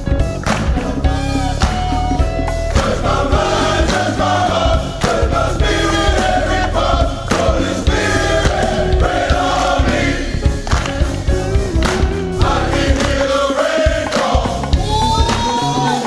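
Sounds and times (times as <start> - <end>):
band with bass and drums: 0.0 - 16.0
men's choir singing gospel: 0.4 - 16.0.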